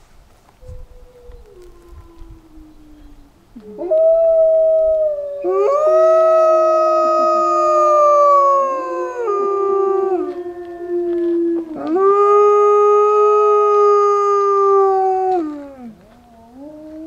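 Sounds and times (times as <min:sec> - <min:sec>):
wolves howling in chorus: 0:00.8 - 0:17.0.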